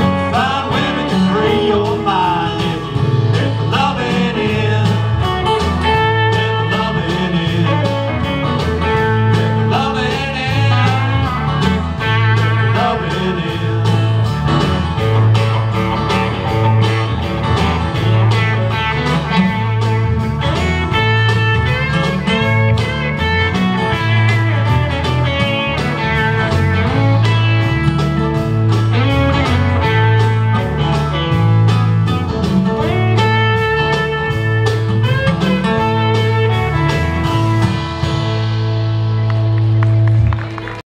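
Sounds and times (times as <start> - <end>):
lead guitar bending notes: 0.0 - 40.8
live country-blues band: 0.0 - 40.8
pulsing bass line: 0.0 - 40.8.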